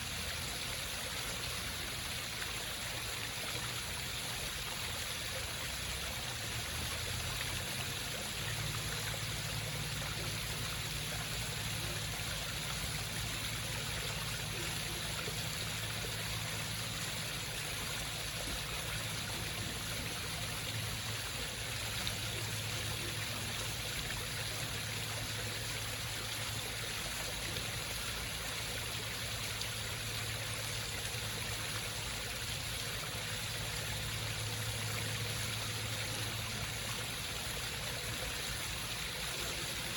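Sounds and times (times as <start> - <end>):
low steady hum: 0.0 - 39.9
water trickling over rocks: 0.0 - 39.9.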